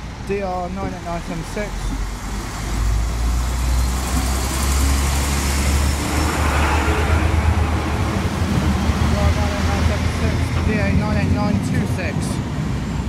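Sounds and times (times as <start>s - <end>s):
diesel rumble: 0.0s - 13.0s
wheel-on-rail noise: 0.0s - 13.0s.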